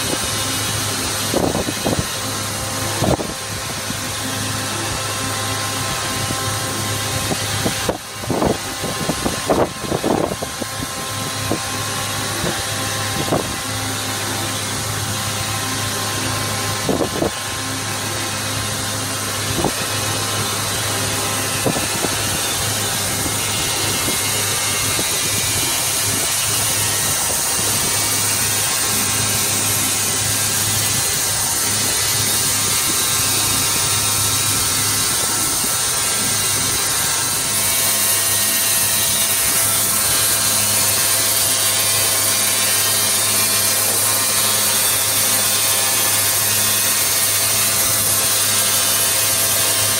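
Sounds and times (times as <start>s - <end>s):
steady tone: 0.0s - 45.2s
grinding machine humming: 0.0s - 49.9s.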